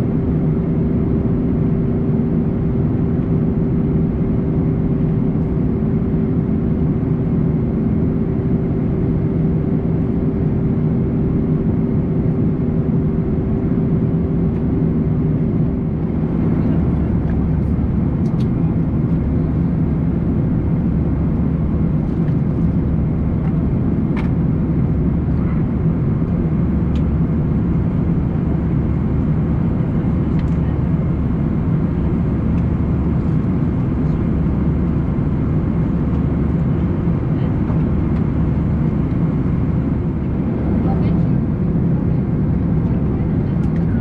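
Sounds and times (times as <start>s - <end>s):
airplane cabin noise: 0.0s - 44.0s.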